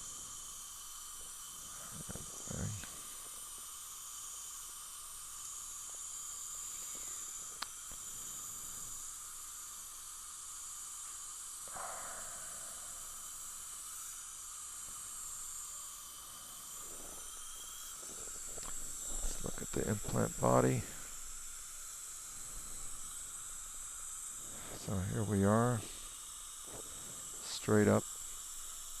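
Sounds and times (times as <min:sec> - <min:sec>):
dental equipment hissing: 0:00.0 - 0:29.0.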